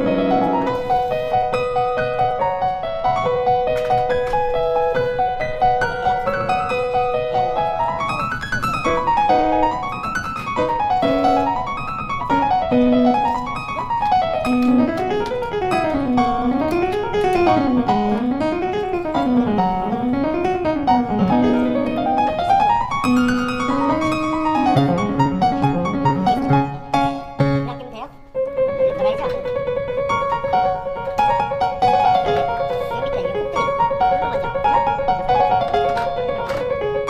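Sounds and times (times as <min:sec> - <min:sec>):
piano music with fast runs: 0:00.0 - 0:37.0.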